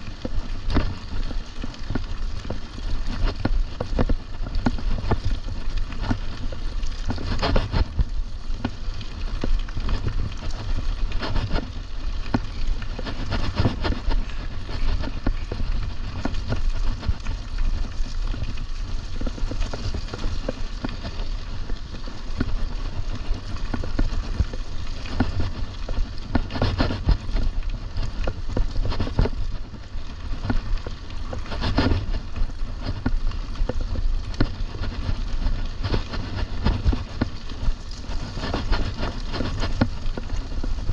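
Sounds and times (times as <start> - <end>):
bike rattling over bumps: 0.0 - 40.9
wind rumbling on microphone: 0.0 - 40.9.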